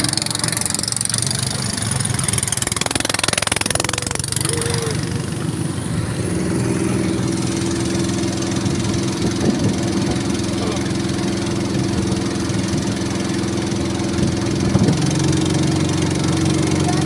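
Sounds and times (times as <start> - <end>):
boat engine running: 0.0 - 17.0
water splashing along hull: 0.0 - 17.0.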